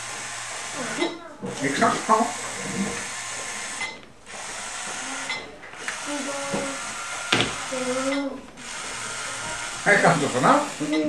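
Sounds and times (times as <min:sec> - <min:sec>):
toy robot motors whirring: 0:00.0 - 0:11.0.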